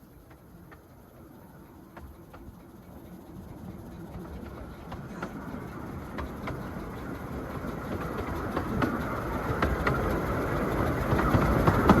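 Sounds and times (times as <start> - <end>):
train running past: 0.0 - 12.0
wheels clicking over rail joints: 0.0 - 12.0.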